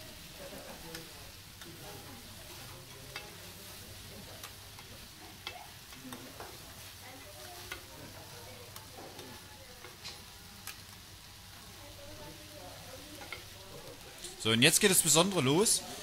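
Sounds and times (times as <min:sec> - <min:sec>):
cabbage sizzling on hotplate: 0:00.0 - 0:16.0.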